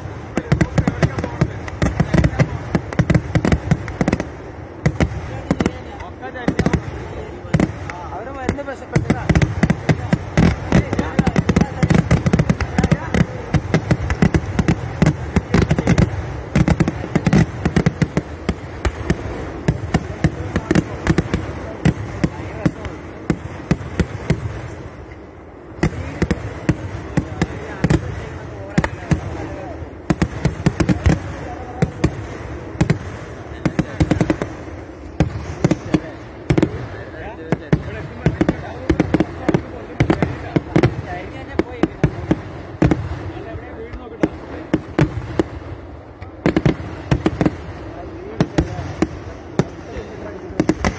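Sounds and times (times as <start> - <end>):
firecracker bangs: 0.0 - 43.5, 46.4 - 50.9.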